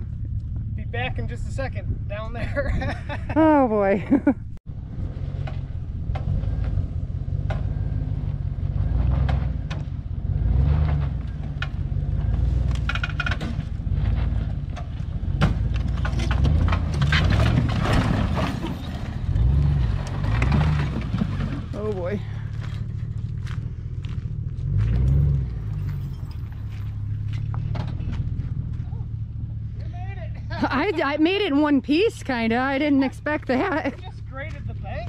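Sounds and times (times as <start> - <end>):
vehicle engine under load: 0.0 - 35.0.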